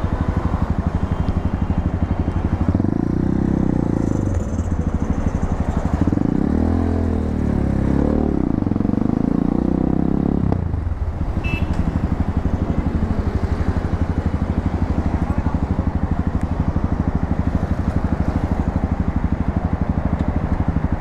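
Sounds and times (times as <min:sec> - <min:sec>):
motorcycle engine revving: 0:02.5 - 0:21.0.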